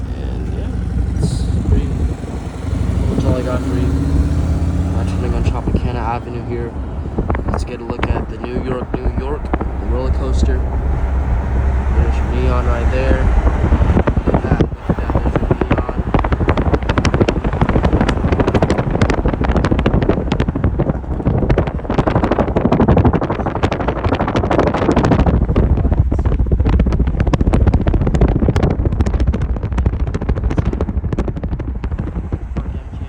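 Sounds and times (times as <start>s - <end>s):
moving car rumble: 0.0s - 33.0s
wind buffeting microphone: 0.0s - 33.0s.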